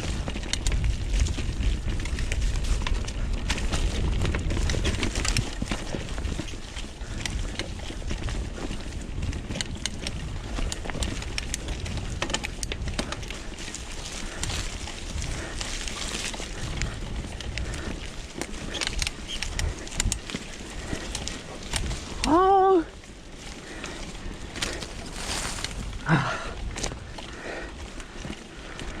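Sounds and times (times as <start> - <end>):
bike chain and frame clicks: 0.0 - 29.0
bike tyre noise: 0.0 - 29.0
wind rumble on microphone: 0.0 - 29.0.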